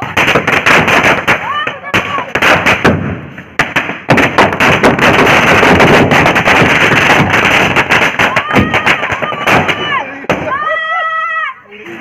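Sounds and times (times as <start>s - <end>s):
firecrackers banging: 0.0s - 11.0s.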